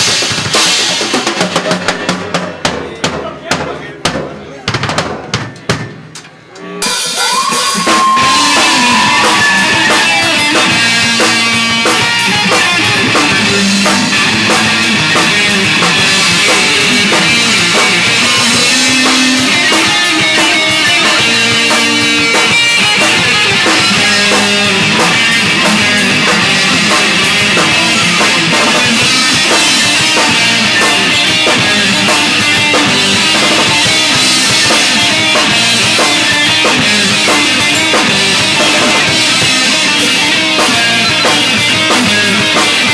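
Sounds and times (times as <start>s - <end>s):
rock band playing: 0.0s - 42.9s.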